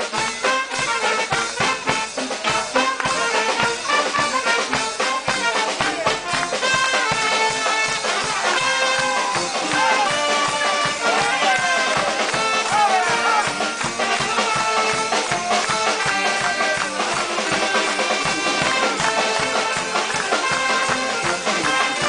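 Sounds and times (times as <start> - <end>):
bass drum beat: 0.0 - 22.0
brass band playing: 0.0 - 22.0.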